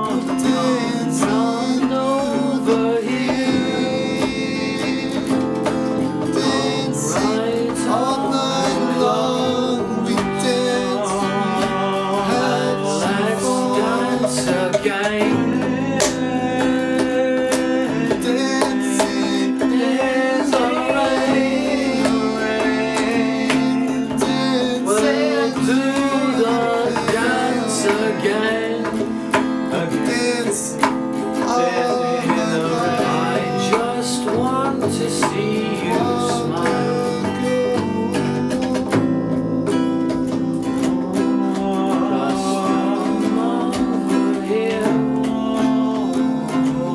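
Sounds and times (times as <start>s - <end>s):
guitar instrumental music: 0.0s - 46.9s.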